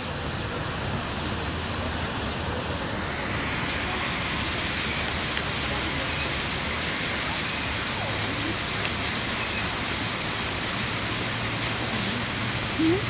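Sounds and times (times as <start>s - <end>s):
outdoor rushing noise: 0.0s - 12.9s.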